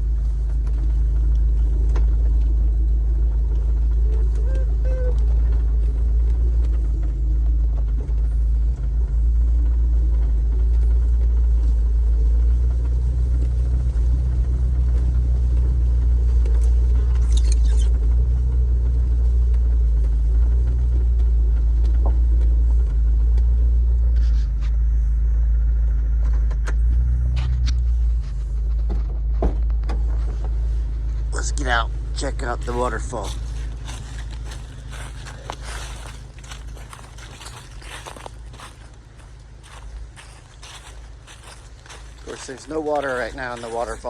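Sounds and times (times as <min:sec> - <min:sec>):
vehicle engine rumbling: 0:00.0 - 0:44.0.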